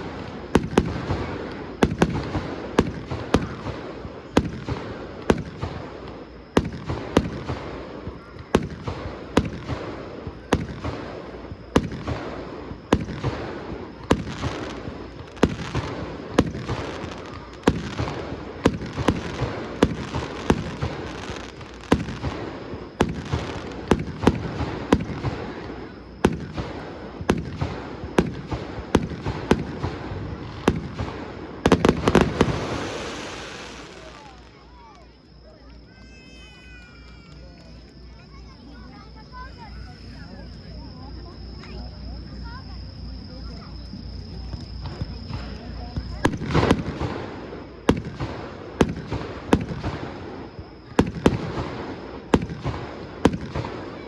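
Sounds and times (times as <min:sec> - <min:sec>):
fireworks bangs: 0:00.0 - 0:35.2, 0:44.3 - 0:54.0
fireworks crackling and rumble: 0:00.0 - 0:54.0.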